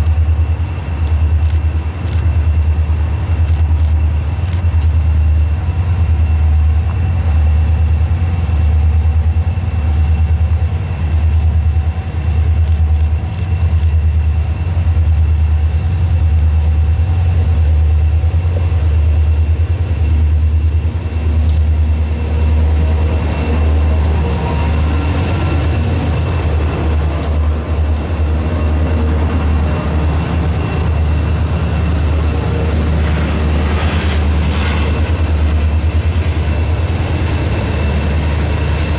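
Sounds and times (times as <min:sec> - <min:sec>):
diesel locomotive rumble: 0:00.0 - 0:38.9.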